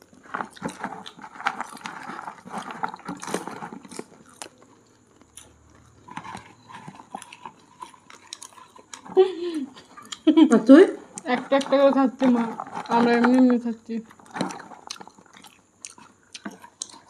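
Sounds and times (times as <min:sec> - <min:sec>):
popcorn crunching while chewed: 0:00.0 - 0:17.0.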